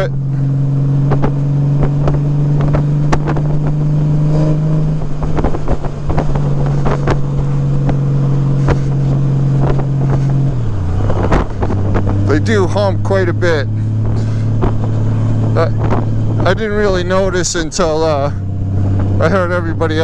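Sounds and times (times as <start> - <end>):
motorcycle engine cruising: 0.0 - 20.0
wind buffeting microphone: 0.0 - 20.0.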